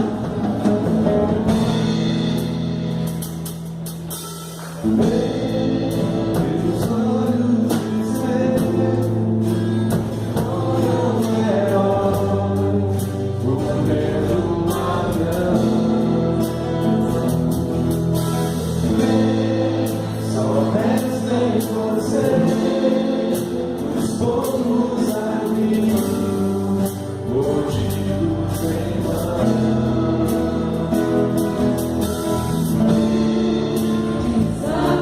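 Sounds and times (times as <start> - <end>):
acoustic guitars: 0.0 - 35.0
group of voices singing: 4.6 - 35.0.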